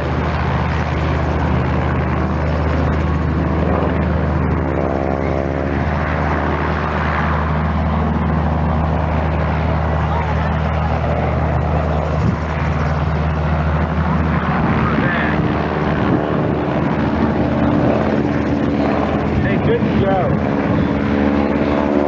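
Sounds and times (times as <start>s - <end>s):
propeller airplane engines droning: 0.0s - 22.0s.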